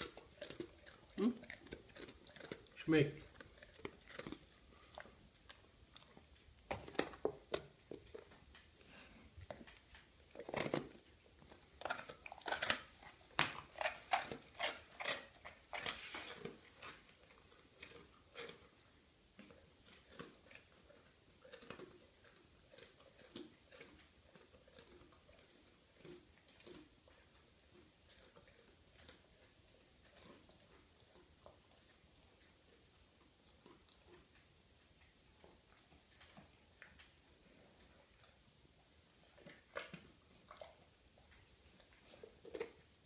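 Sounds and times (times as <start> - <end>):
dog crunching bread: 0.0 - 43.0.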